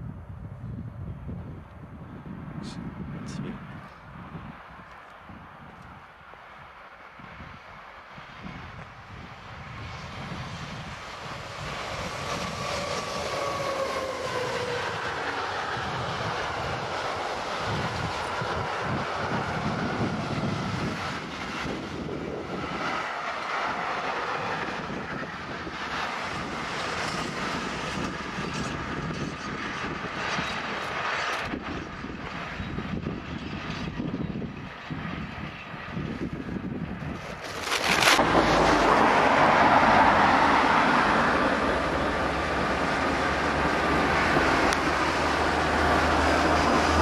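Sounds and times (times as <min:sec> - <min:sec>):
electric locomotive whine: 0:04.1 - 0:47.0
freight wagons rumbling on rails: 0:07.7 - 0:47.0.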